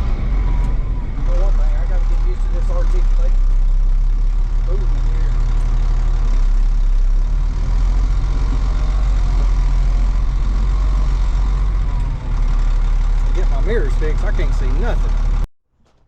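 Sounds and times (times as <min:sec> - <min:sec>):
diesel truck engine running: 0:00.0 - 0:15.5.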